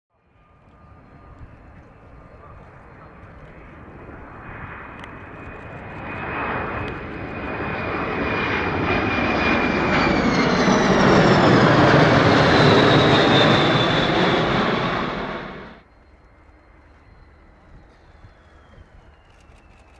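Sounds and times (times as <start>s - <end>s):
jet airliner passing overhead: 0.1s - 19.9s.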